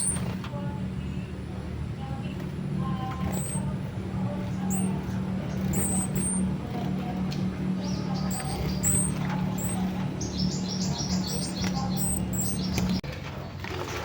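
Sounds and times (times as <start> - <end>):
low hum: 0.0 - 13.1
small songbirds chirping: 0.0 - 13.6.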